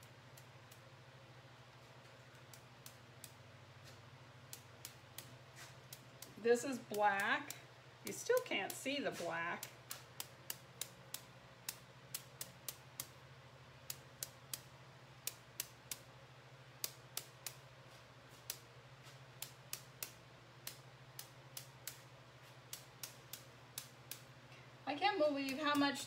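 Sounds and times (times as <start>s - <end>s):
brush tapping ticks: 0.0s - 1.0s, 1.7s - 13.2s, 13.8s - 16.1s, 16.8s - 24.3s, 24.9s - 26.0s.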